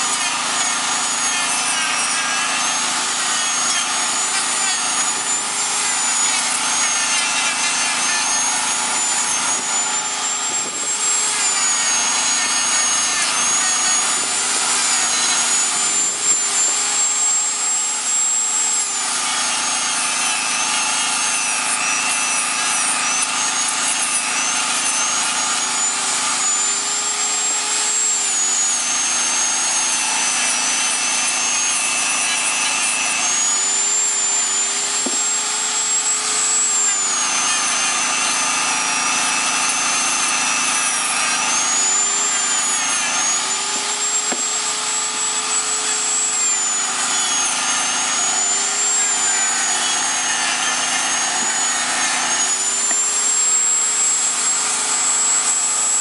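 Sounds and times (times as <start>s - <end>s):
rotary tool motor whine: 0.0s - 56.0s.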